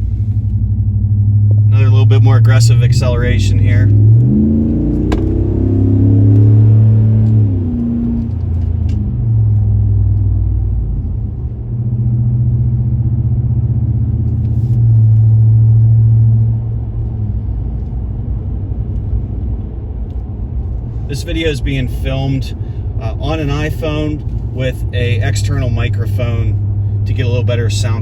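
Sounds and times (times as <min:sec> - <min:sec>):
car exhaust under hard acceleration: 0:00.0 - 0:28.0.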